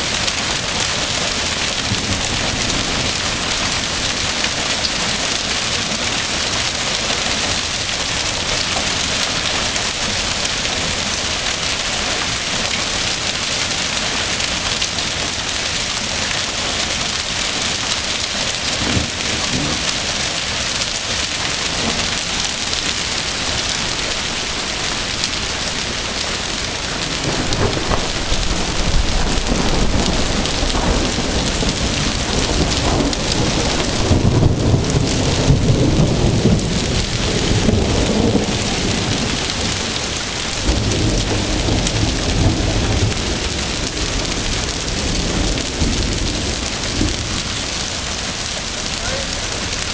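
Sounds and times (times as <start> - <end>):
deep thunder rumbles: 0.0 - 11.5, 18.3 - 49.9
hail and heavy rain pounding: 0.0 - 49.9.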